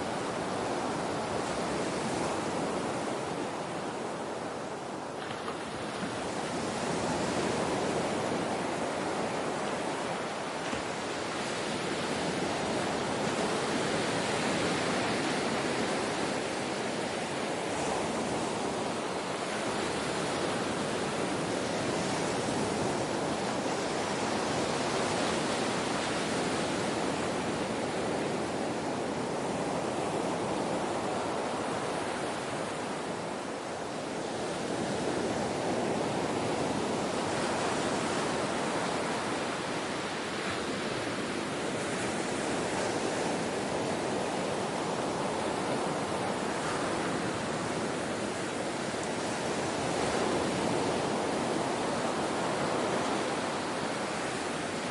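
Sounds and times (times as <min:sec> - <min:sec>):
ocean waves washing: 0:00.0 - 0:54.9.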